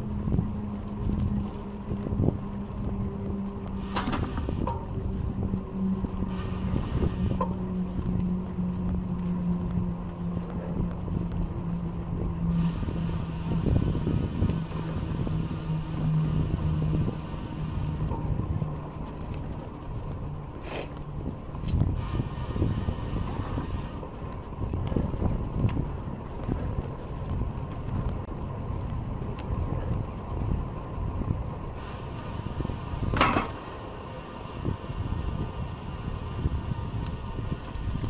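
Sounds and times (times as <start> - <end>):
low hum: 0.0 - 38.0
wind rushing over microphone: 0.0 - 38.0.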